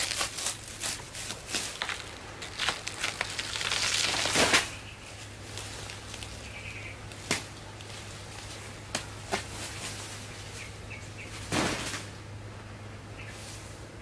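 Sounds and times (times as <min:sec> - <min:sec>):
leaves rustling: 0:00.0 - 0:12.2, 0:13.2 - 0:14.0.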